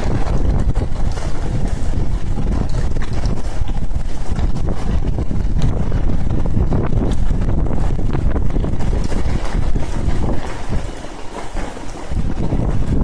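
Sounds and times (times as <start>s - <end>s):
heavy rain on pavement: 0.0s - 13.0s
wind buffeting microphone: 0.0s - 13.0s.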